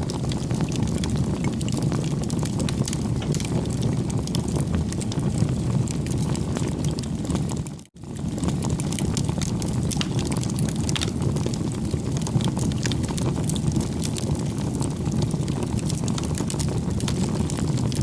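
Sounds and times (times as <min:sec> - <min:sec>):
rush of flames: 0:00.0 - 0:18.0
wood crackling and popping: 0:00.0 - 0:18.0.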